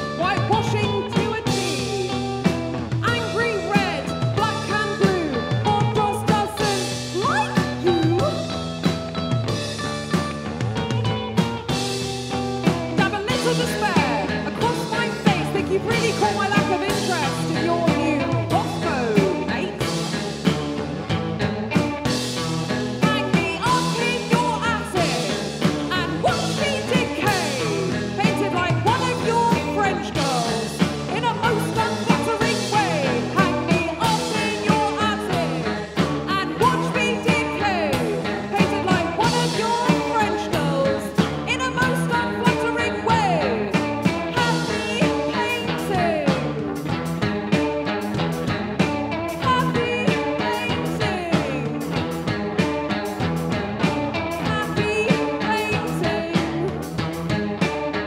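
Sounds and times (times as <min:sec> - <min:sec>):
drums beating: 0:00.0 - 0:58.0
live rock band playing: 0:00.0 - 0:58.0.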